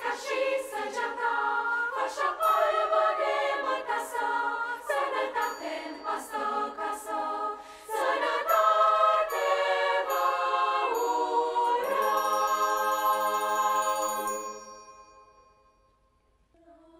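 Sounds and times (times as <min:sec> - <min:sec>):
children's choir singing: 0:00.0 - 0:14.4, 0:16.6 - 0:16.9.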